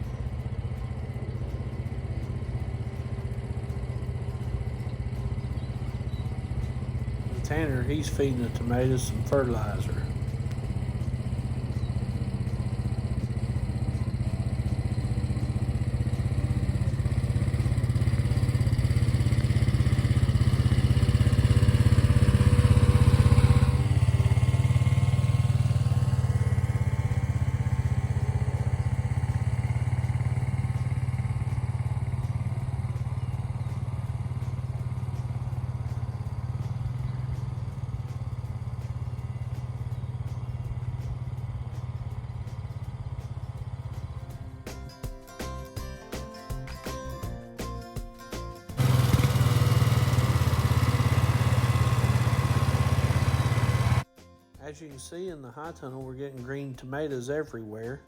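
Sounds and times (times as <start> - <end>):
farm vehicle engine passing: 0.0 - 54.1.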